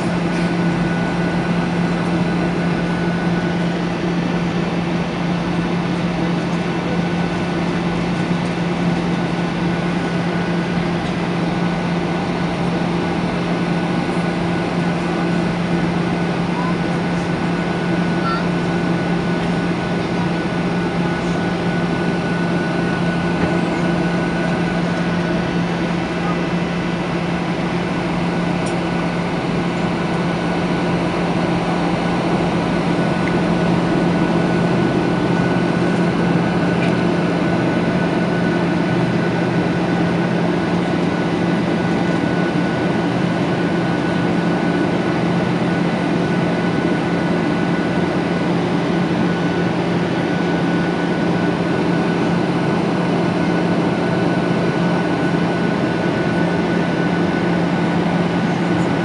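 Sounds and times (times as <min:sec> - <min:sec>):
jet engine roar and airflow: 0:00.0 - 0:59.0.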